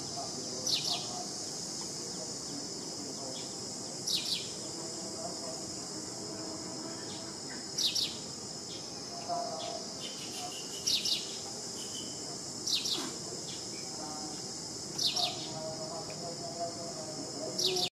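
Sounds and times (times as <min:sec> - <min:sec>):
high-pitched insect chorus: 0:00.0 - 0:17.9.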